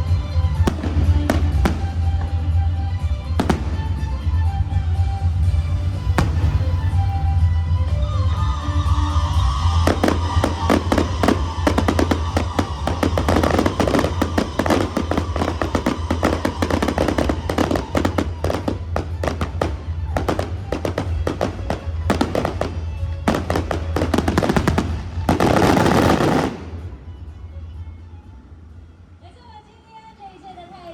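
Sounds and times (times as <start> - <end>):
fireworks crackling and popping: 0.0 - 26.9
background music: 0.0 - 30.9.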